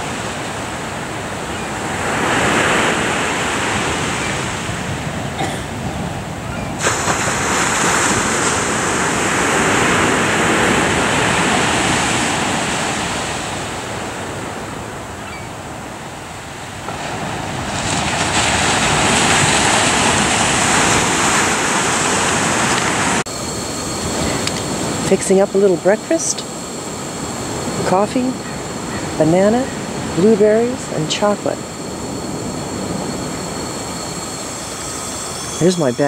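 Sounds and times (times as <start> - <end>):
waves breaking on sandy beach: 0.0 - 36.0.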